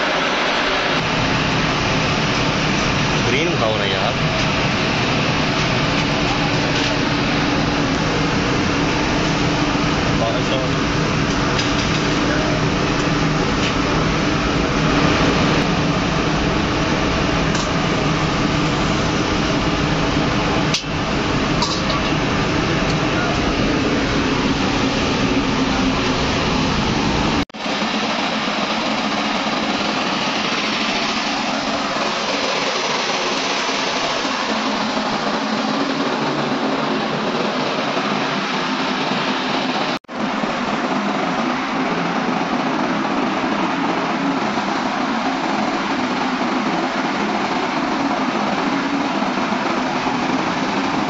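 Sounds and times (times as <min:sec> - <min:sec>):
factory machine noise: 0:00.0 - 0:51.0
low droning hum: 0:00.0 - 0:51.0.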